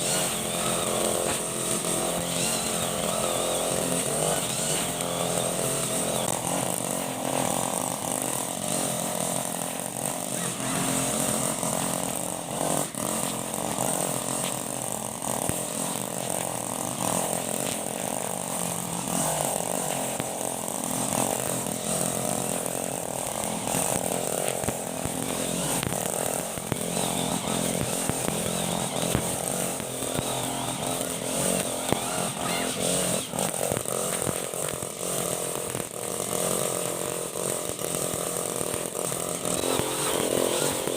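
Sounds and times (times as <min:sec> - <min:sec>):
brush cutter engine buzzing: 0:00.0 - 0:40.9.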